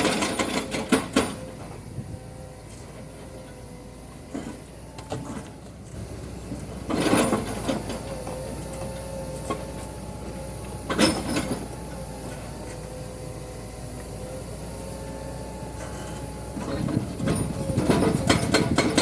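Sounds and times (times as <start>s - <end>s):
excavator digging in rock: 0.0s - 1.8s, 2.7s - 12.9s, 15.7s - 19.0s
excavator engine running: 0.0s - 19.0s
hydraulic whine: 0.0s - 19.0s.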